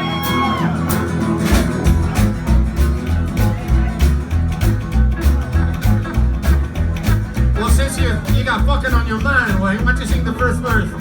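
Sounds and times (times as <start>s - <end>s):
band playing boogie groove: 0.0s - 11.0s
guitar: 0.0s - 11.0s
steady drum beat: 0.2s - 11.0s
bouncing bass line: 1.0s - 11.0s.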